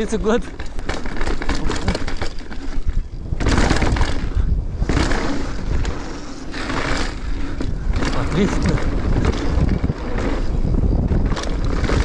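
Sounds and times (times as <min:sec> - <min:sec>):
mountain bike rattling on rocks: 0:00.0 - 0:12.0
rushes of noise: 0:00.5 - 0:12.0.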